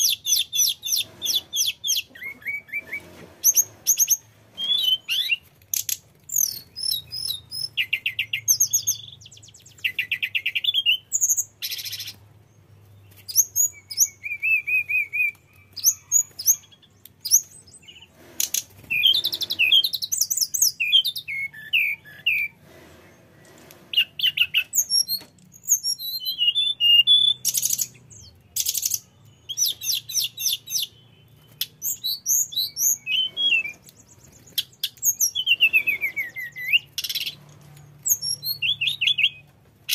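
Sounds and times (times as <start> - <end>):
bird singing whistles and trills: 0.0 - 12.2, 13.1 - 22.6, 24.0 - 37.4, 38.0 - 39.9.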